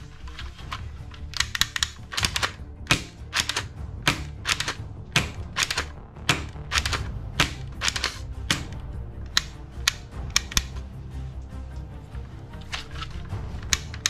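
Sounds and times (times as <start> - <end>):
toy rifle plastic clicks: 0.2 - 10.8, 12.6 - 14.0.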